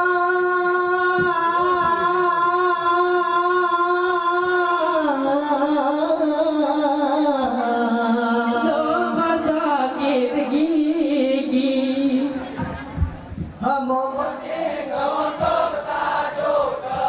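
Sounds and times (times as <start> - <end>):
men chanting in high voice: 0.0 - 12.9, 13.5 - 17.0.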